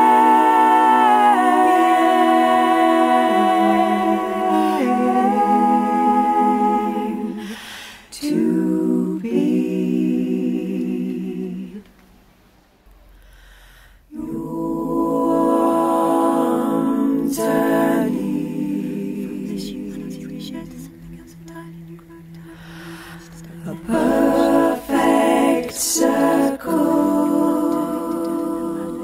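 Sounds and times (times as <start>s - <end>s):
voices singing held notes: 0.0s - 11.9s, 14.1s - 29.0s.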